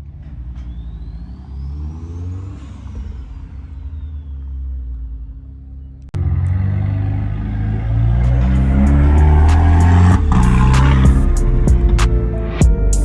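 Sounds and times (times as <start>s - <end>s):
car engine revving: 0.0s - 12.6s
loud car engine: 0.0s - 12.6s.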